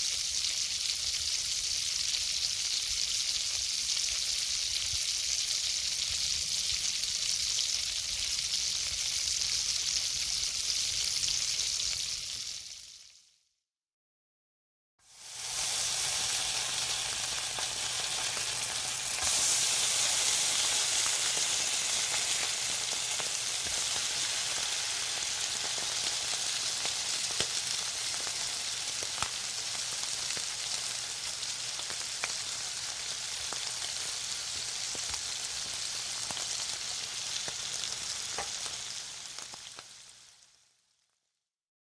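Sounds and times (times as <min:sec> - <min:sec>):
food sizzling in a pan: 0:00.0 - 0:13.4, 0:15.0 - 0:41.2.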